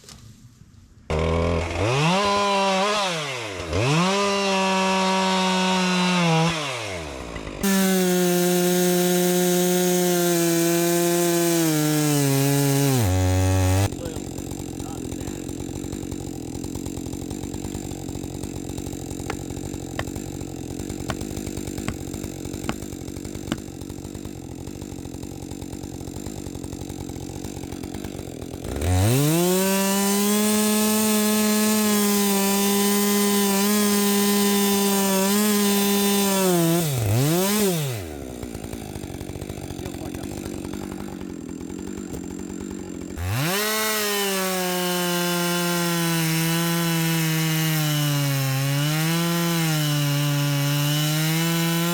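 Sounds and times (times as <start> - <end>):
chainsaw revving and cutting wood: 1.0 - 51.9.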